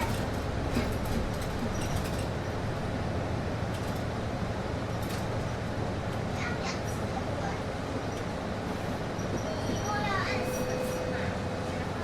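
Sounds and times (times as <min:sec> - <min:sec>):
bus air conditioning and engine hum: 0:00.0 - 0:12.0.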